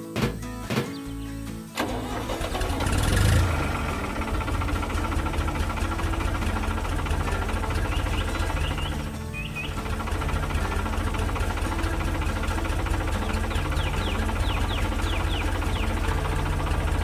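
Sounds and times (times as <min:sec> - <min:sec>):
harvester engine throbbing: 0:00.4 - 0:17.0.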